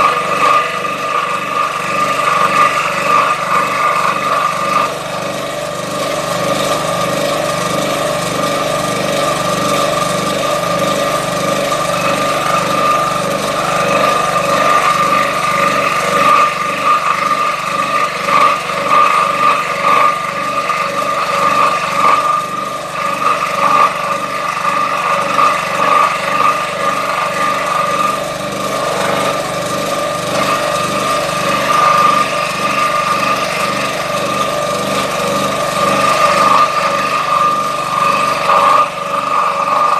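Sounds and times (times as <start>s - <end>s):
scroll saw cutting board: 0.0s - 39.9s.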